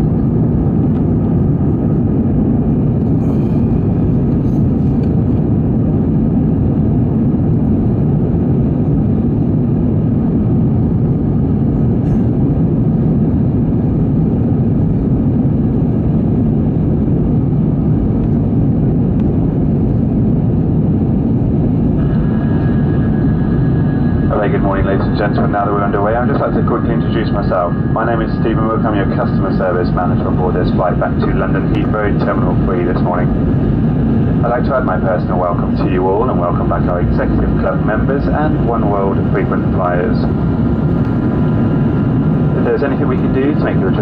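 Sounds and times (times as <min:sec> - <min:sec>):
jet engine and airflow rumble in cabin: 0:00.0 - 0:44.0.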